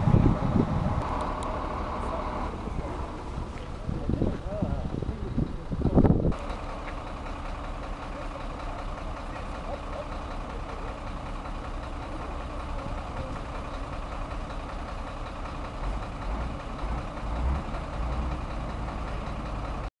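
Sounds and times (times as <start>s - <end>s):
truck diesel engine idling: 0.0s - 19.9s.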